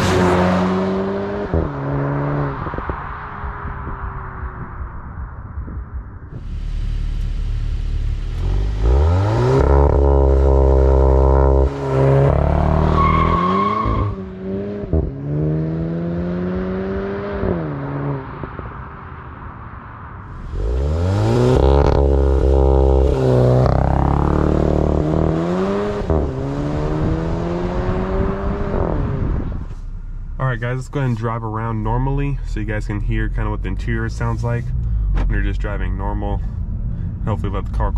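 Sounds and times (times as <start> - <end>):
car engine accelerating hard: 0.0 - 4.9, 6.3 - 18.5, 20.3 - 37.9.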